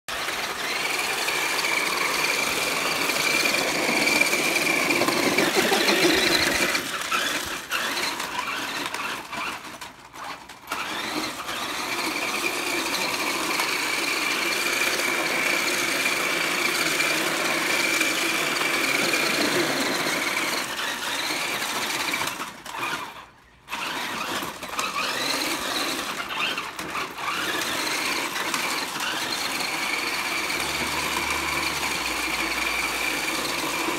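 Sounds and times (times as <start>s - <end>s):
rc truck motor whining: 0.1s - 33.9s.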